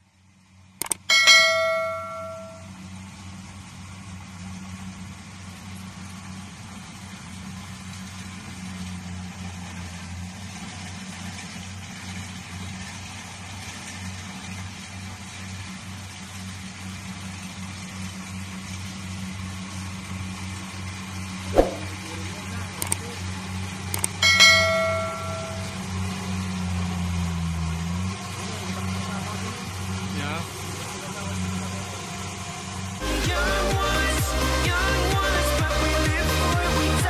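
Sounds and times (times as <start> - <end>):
combine harvester engine hum: 0.0 - 37.0.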